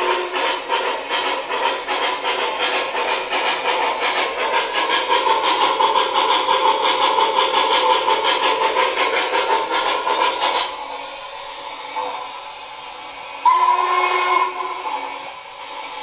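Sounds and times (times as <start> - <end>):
model steam locomotive chuffing: 0.0 - 16.0
steady steam hiss: 0.0 - 16.0.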